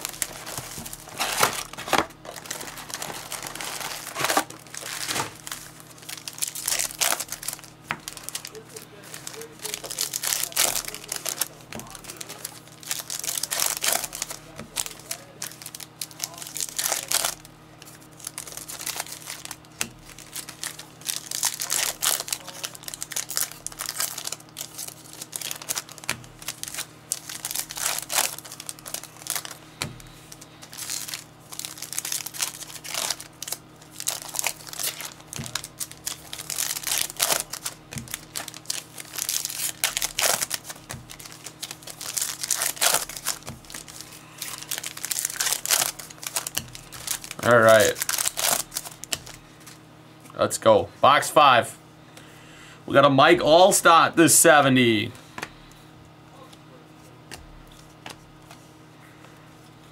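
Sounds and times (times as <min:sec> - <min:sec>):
plastic wrapping crinkling and tearing: 0:00.0 - 0:49.8.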